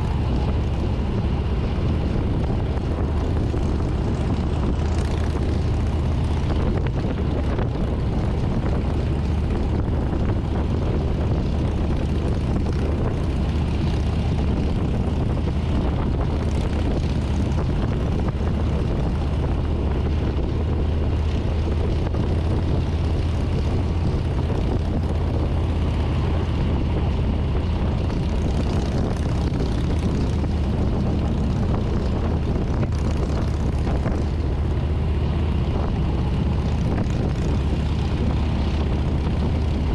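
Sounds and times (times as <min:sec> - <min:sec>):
motorcycle engine cruising: 0:00.0 - 0:39.9
rushing wind noise: 0:00.0 - 0:39.9.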